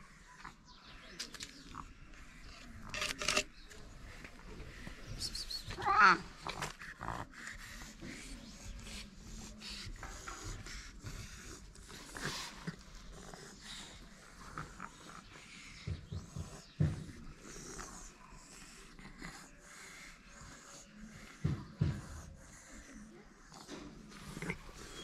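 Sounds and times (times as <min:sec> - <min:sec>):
cat breathing and snuffling: 0:00.0 - 0:25.0.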